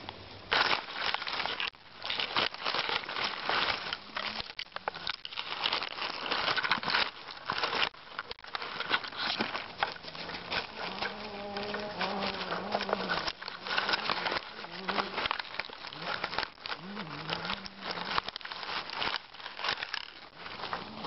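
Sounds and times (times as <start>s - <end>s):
dry leaves and twigs crackling: 0.0s - 21.0s.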